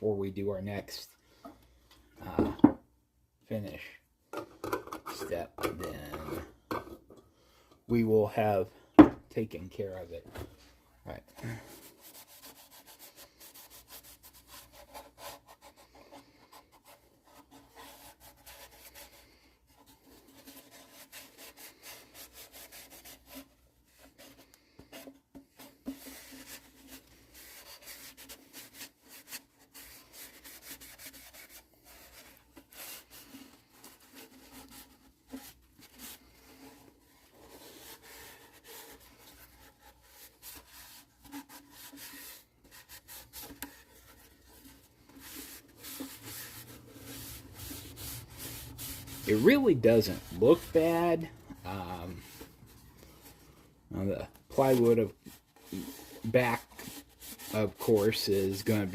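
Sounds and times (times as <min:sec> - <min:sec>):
paper towel rubbing on wood: 0:11.4 - 0:58.9.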